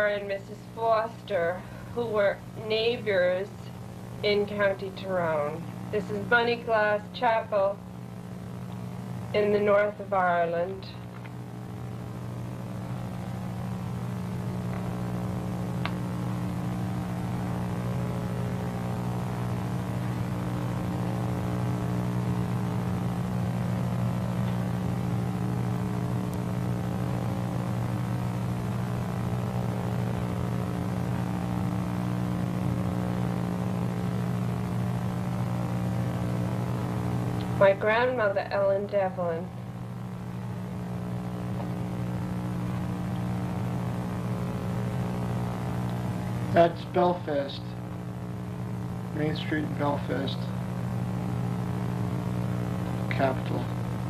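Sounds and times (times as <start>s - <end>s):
low electrical hum with hiss: 0.0s - 54.0s.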